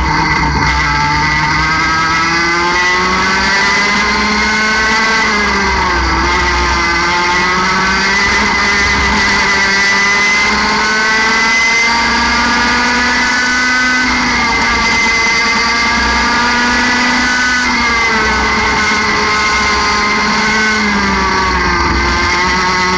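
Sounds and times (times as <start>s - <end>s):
kart engine at racing revs: 0.0s - 22.9s.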